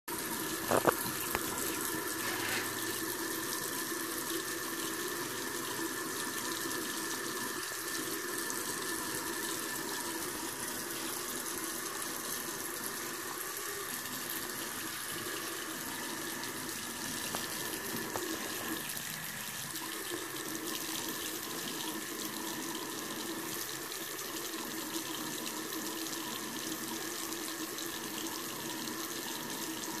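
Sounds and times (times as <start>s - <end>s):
faucet water stream splashing: 0.1s - 30.0s.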